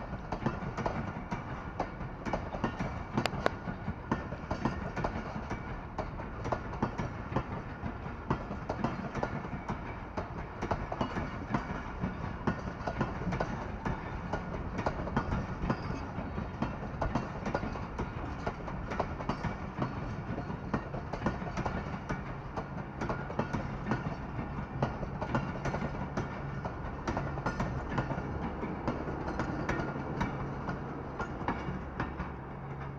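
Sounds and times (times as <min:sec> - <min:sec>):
train rumble: 0:00.0 - 0:32.9
wheels clicking over rail joints: 0:00.0 - 0:32.9.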